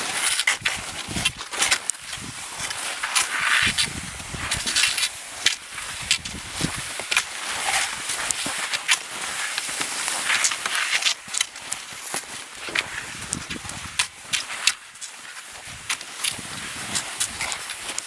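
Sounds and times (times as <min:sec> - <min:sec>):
footsteps crunching in snow: 0:00.0 - 0:18.0.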